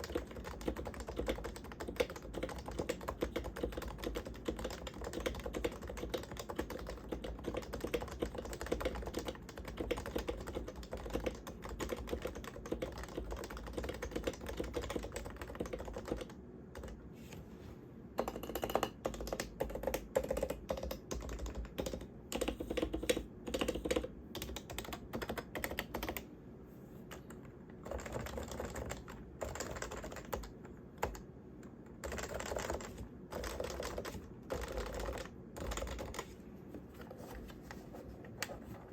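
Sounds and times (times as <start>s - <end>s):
typing on keyboard: 0.0s - 17.0s, 18.2s - 26.3s, 27.1s - 36.3s.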